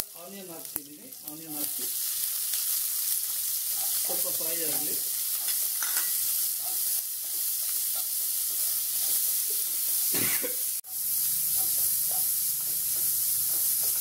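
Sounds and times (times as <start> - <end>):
onions sizzling in hot oil: 0.0 - 14.0
wooden spatula scraping a pan: 1.5 - 10.1, 11.0 - 14.0.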